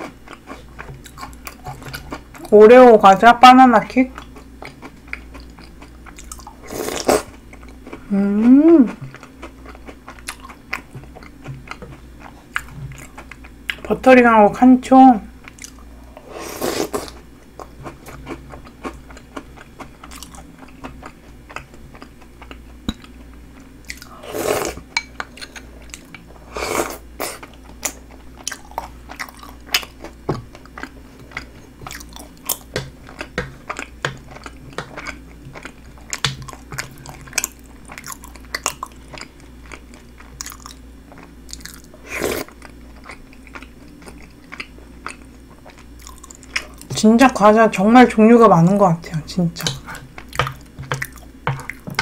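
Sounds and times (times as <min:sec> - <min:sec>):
chewing and crunching snacks: 0:00.0 - 0:02.6, 0:04.1 - 0:13.9, 0:15.4 - 0:16.2, 0:16.9 - 0:47.0.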